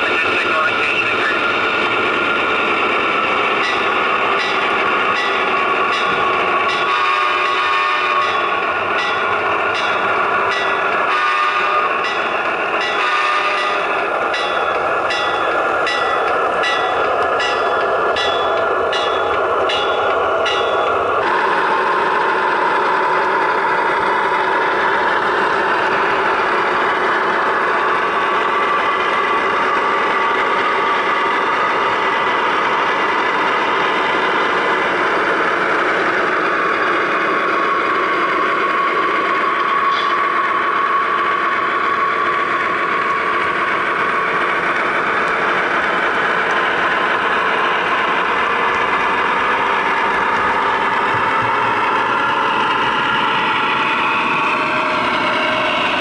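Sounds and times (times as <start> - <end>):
model locomotive diesel engine sound: 0.0 - 56.0.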